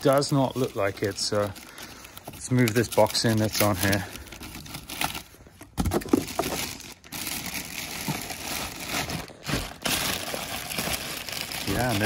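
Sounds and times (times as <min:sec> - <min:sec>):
cardboard insert rustling: 0:00.0 - 0:12.0
plastic bag crinkling: 0:00.0 - 0:12.0.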